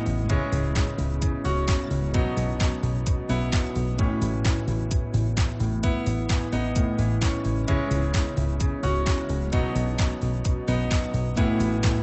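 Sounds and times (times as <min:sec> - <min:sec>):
drums: 0:00.0 - 0:12.0.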